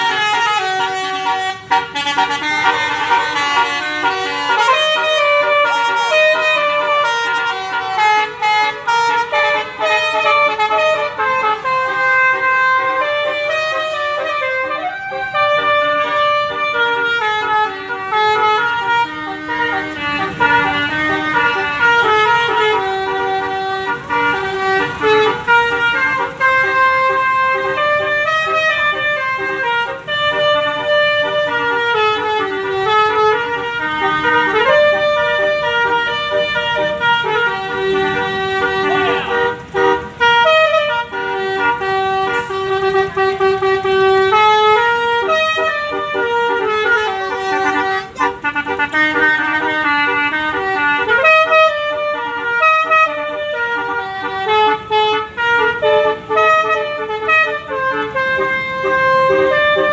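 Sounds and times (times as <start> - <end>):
multi-trumpet horn playing tune: 0.0 - 59.9.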